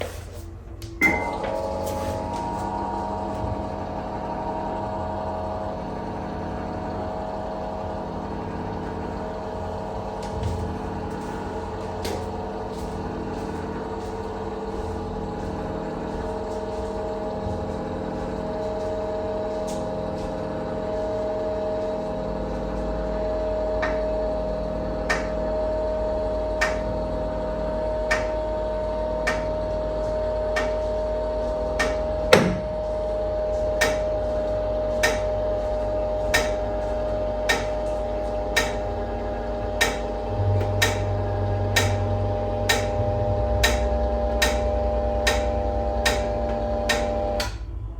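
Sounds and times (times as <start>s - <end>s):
treadmill motor humming: 0.0s - 47.9s.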